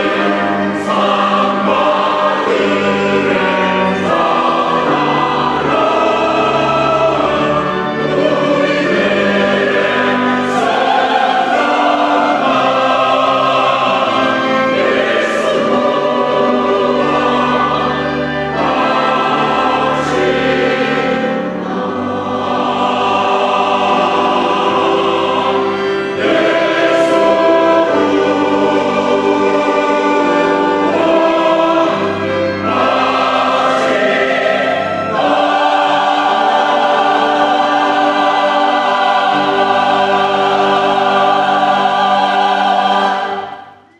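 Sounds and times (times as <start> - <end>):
church choir singing: 0.0 - 43.9.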